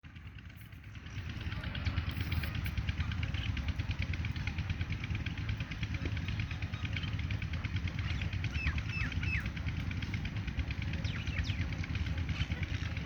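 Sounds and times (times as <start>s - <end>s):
steady low rumble: 0.0s - 13.0s
birds chattering: 0.9s - 13.0s.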